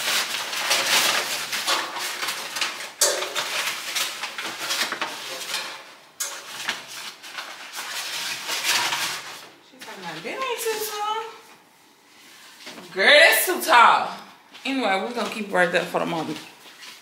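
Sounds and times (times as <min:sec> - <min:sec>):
plant leaves rustling: 0:00.0 - 0:11.5, 0:12.1 - 0:17.0.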